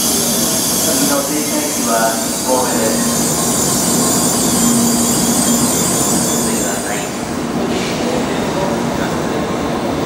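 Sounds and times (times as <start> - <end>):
train running noise: 0.0 - 10.0.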